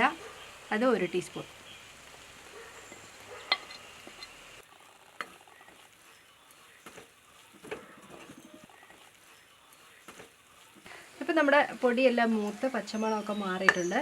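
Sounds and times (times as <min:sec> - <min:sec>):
spices and onions sizzling: 0:00.0 - 0:14.0.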